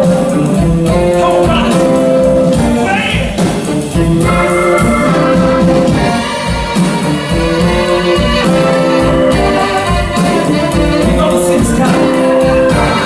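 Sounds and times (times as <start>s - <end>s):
blues band playing live: 0.0s - 13.0s.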